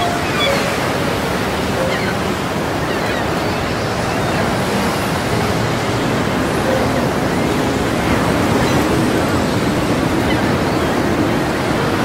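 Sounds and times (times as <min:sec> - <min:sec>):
choppy sea water: 0:00.0 - 0:12.0
wind: 0:00.0 - 0:12.0.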